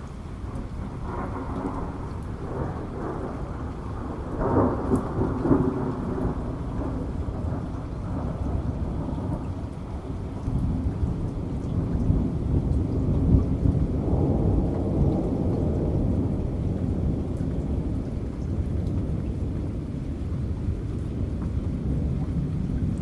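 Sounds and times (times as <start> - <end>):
raindrop ticks: 0.0 - 23.0
steady rain: 0.0 - 23.0
thunder rumbling: 0.0 - 23.0.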